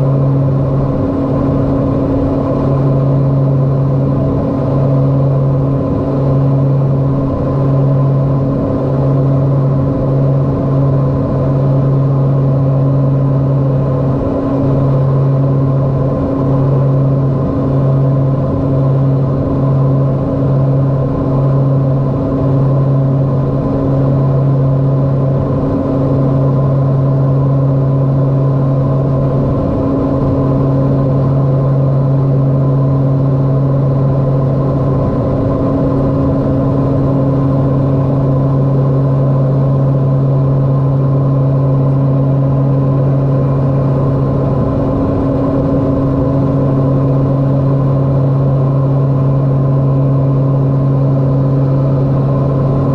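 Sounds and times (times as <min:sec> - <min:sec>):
propeller aircraft engine drone: 0:00.0 - 0:52.9.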